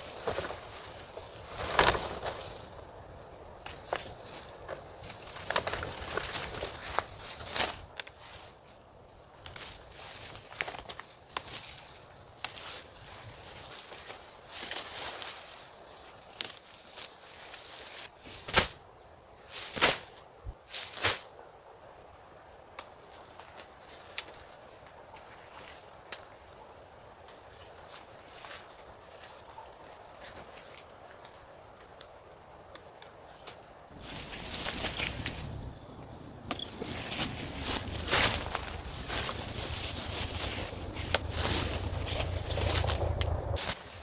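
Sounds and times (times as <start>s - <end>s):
insects trilling: 0.0s - 44.0s
lower insect trill: 0.0s - 44.0s.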